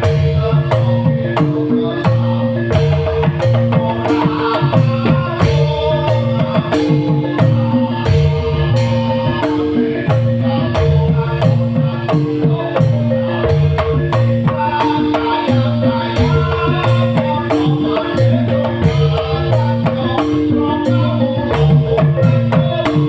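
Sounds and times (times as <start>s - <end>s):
quick percussion beat: 0.0s - 23.0s.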